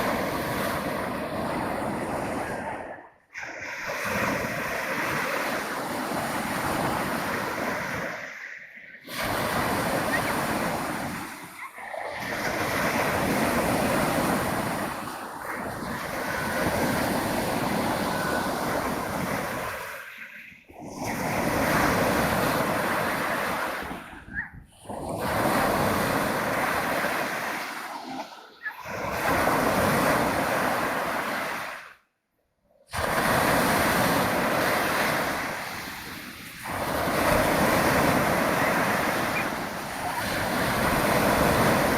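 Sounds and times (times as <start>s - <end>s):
waves breaking on shore: 0.0s - 32.1s, 32.8s - 41.9s.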